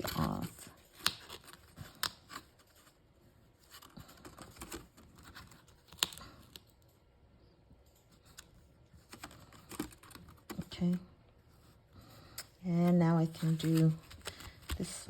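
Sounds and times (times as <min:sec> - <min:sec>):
soft paper rustling: 0:00.0 - 0:07.2, 0:07.8 - 0:15.0.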